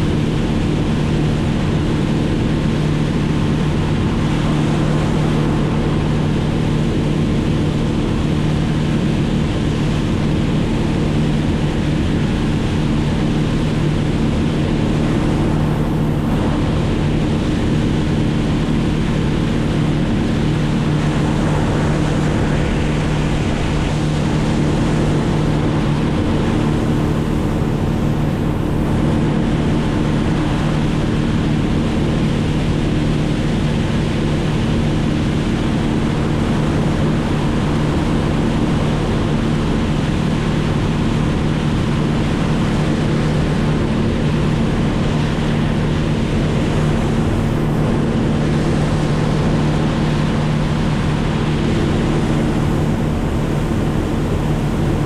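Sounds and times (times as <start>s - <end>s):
engine droning: 0.0s - 55.0s
rushing wind or water: 0.0s - 55.0s.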